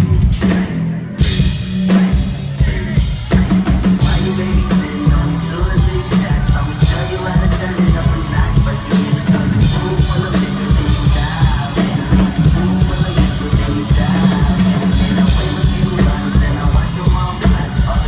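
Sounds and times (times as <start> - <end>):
crowd singing or yelling: 0.0 - 18.0
live pop-rock band playing: 0.0 - 18.0.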